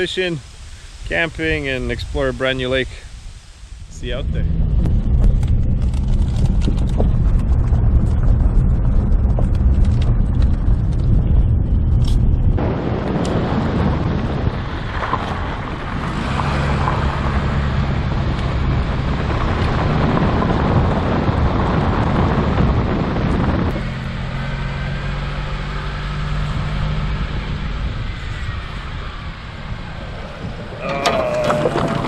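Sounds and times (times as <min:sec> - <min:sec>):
road and wind noise: 0:00.0 - 0:32.0
vehicle engine hum: 0:00.0 - 0:32.0.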